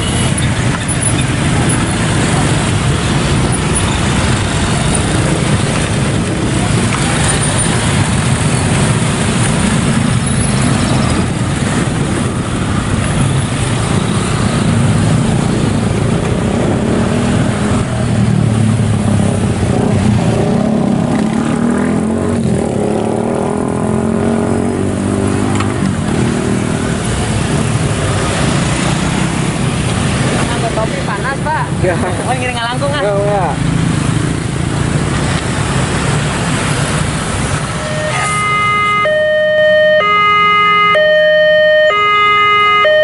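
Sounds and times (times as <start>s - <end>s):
heavy road traffic: 0.0s - 43.0s.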